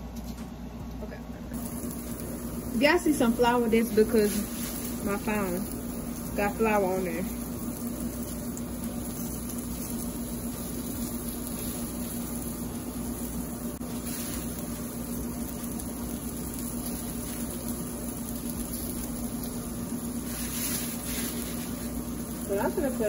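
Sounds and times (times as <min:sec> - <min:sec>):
constant low hum: 0:00.0 - 0:23.0
chicken sizzling in a pan: 0:01.5 - 0:23.0.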